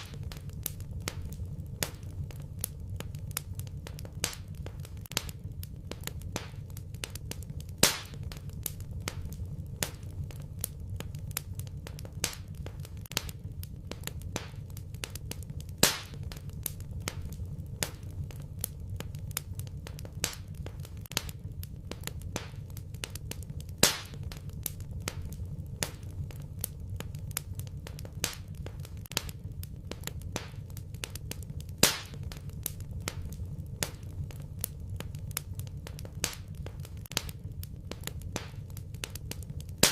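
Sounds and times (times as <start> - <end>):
fire pop: 0.0 - 39.9
wood fire crackling: 0.0 - 39.9.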